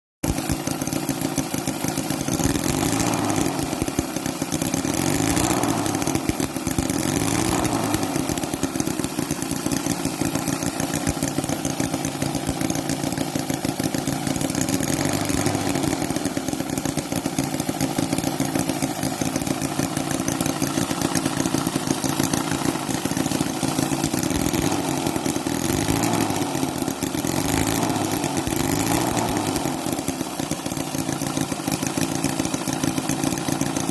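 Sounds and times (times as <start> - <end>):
model engine idling and revving: 0.2 - 33.9.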